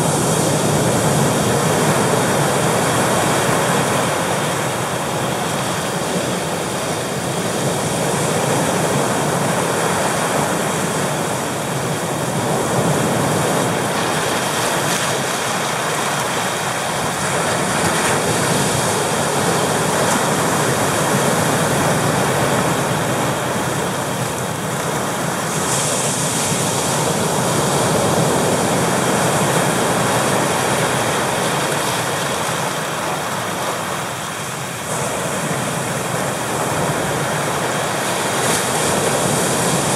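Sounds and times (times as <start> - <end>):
ocean surf over rocks: 0.0 - 39.9.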